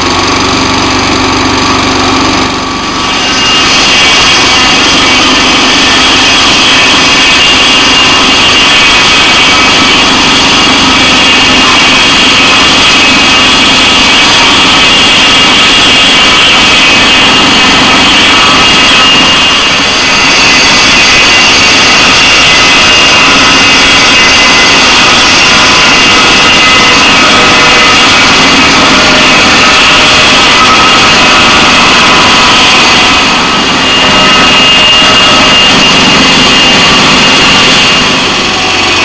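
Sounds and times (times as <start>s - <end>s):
sawmill engine and saw cutting log: 0.0s - 39.0s.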